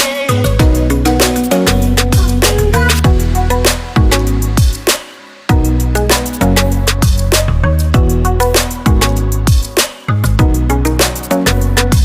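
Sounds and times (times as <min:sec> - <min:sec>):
music with deep sliding bass: 0:00.3 - 0:12.0.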